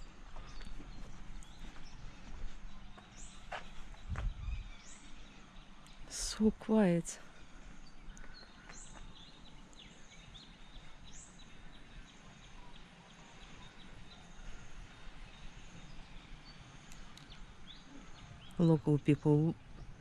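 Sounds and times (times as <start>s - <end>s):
bird calls: 0.0s - 20.0s.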